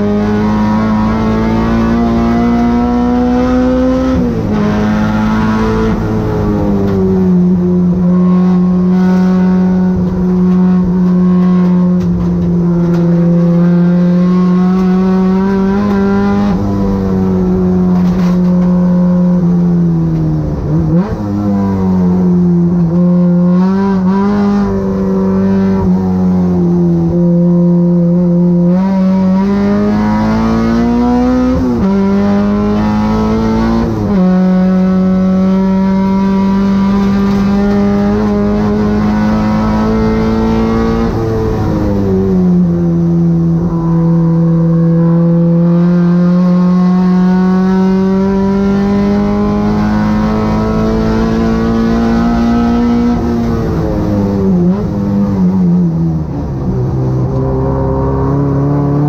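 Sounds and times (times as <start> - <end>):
race car engine revving high: 0.0 - 59.0.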